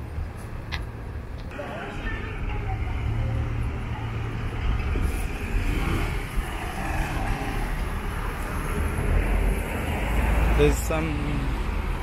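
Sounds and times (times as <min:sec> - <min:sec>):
bus engine rumbling: 0:00.0 - 0:12.0
street traffic noise: 0:00.0 - 0:12.0.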